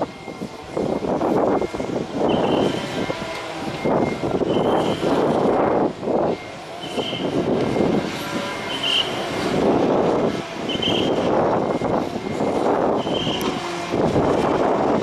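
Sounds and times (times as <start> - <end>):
reversing alarm beeps: 0.0 - 13.9
heavy truck reversing: 0.0 - 15.0.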